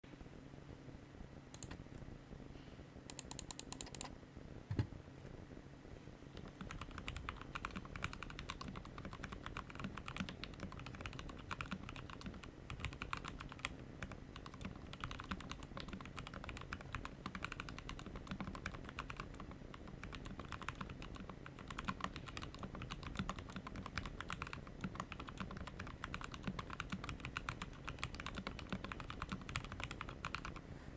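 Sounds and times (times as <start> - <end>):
mechanical keyboard typing: 1.5 - 1.8, 3.1 - 4.1, 6.4 - 30.6.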